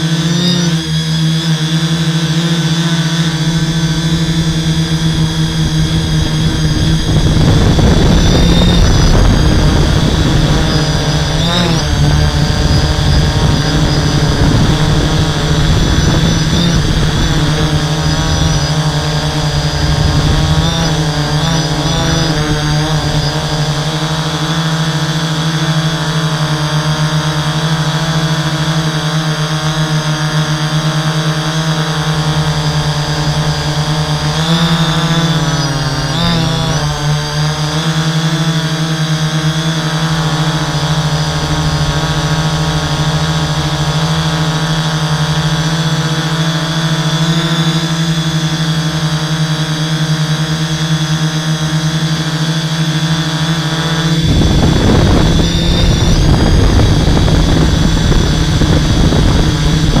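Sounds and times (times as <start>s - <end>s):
drone motors humming: 0.0s - 60.0s.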